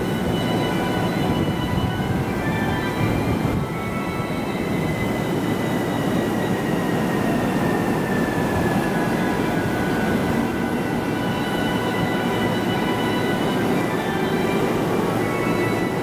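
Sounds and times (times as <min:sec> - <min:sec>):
electric train humming: 0:00.0 - 0:16.0
faint high whining tones: 0:00.0 - 0:16.0.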